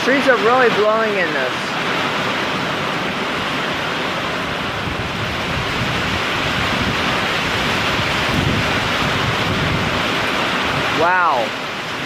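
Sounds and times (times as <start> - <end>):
heavy rain: 0.0 - 12.0
strong wind: 0.0 - 12.0
wind buffeting microphone: 1.8 - 12.0.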